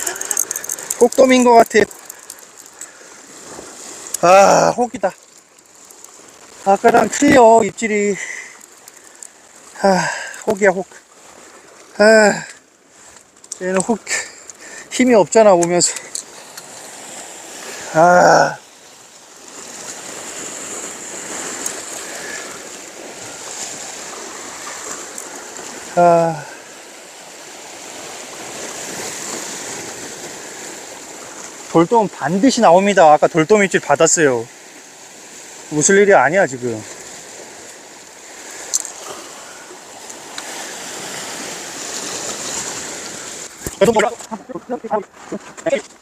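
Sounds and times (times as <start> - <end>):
sea waves on rocky shore: 0.0 - 46.0.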